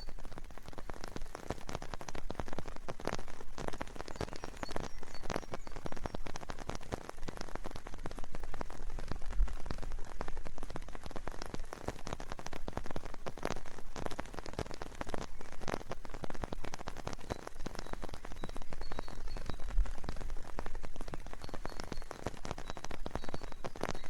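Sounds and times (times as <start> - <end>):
raindrops striking close by: 0.0 - 24.0
steady rain: 0.0 - 24.0.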